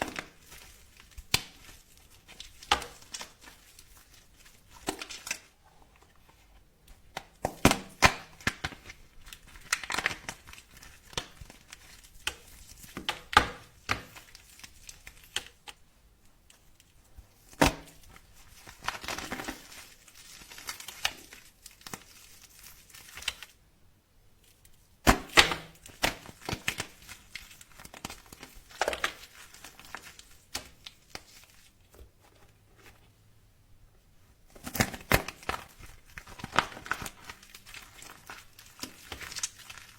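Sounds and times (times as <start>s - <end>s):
dry soap crackling: 0.0s - 23.7s, 24.4s - 33.2s, 34.2s - 39.9s.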